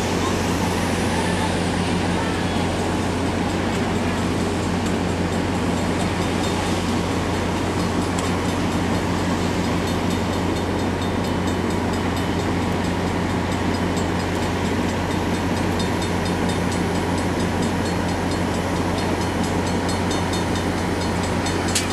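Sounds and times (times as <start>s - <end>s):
diesel locomotive engine hum: 0.0s - 21.9s
rail noise: 0.0s - 21.9s.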